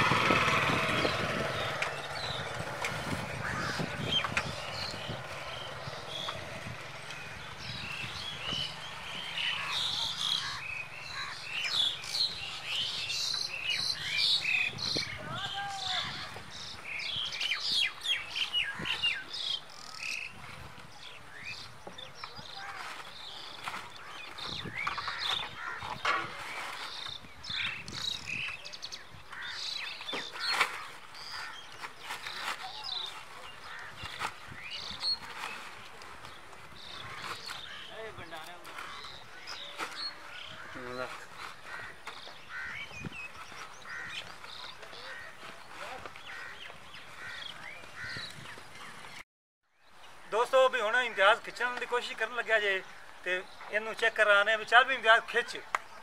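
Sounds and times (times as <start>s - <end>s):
birds chirping: 0.0s - 49.2s, 49.8s - 56.0s.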